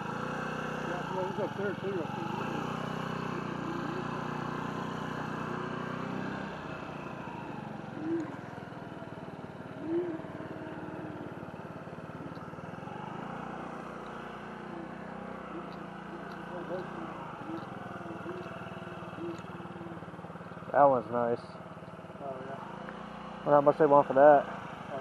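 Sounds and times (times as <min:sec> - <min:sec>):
electric scooter motor hum: 0:00.0 - 0:25.0
wind: 0:00.0 - 0:25.0.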